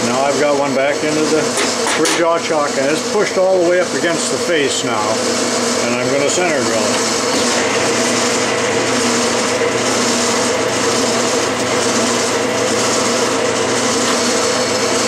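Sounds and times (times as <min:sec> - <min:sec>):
metal lathe whining: 0:00.0 - 0:15.0.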